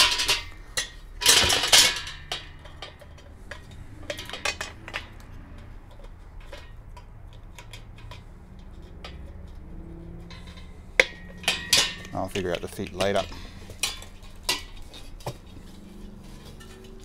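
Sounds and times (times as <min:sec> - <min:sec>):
metal parts clinking and clattering: 0:00.0 - 0:17.0.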